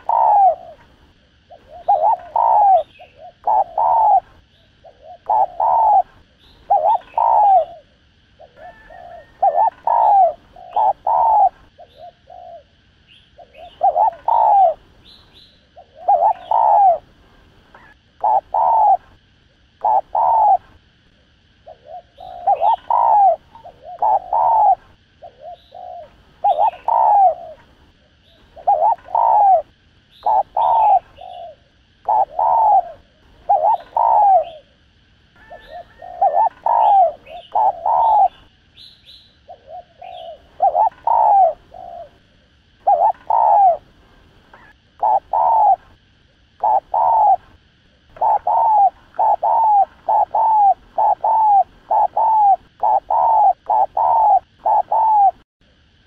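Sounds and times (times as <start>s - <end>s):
dove cooing: 0.0s - 34.8s, 35.4s - 55.4s.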